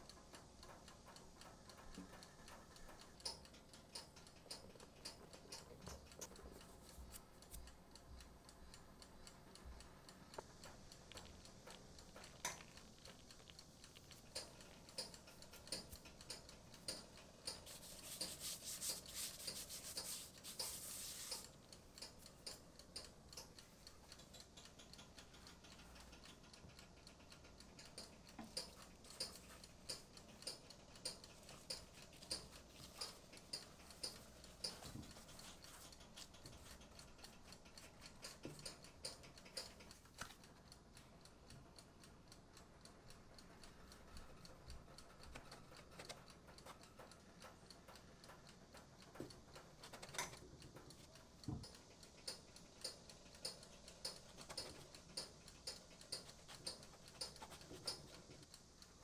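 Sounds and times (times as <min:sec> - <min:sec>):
faint regular ticking: 0:00.0 - 0:59.0.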